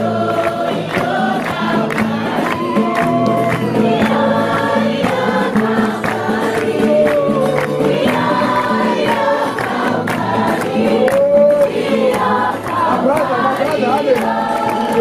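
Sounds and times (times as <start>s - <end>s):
group singing in harmony: 0.0s - 15.0s.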